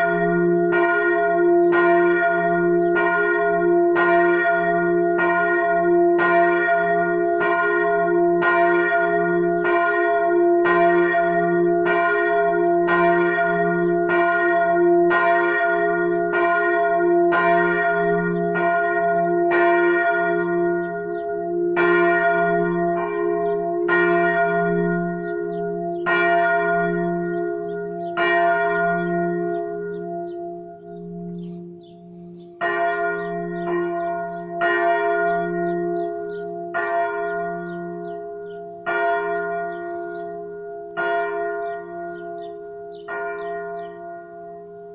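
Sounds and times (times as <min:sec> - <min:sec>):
church bell ringing: 0:00.0 - 0:44.9
peal of several bells: 0:00.0 - 0:44.9.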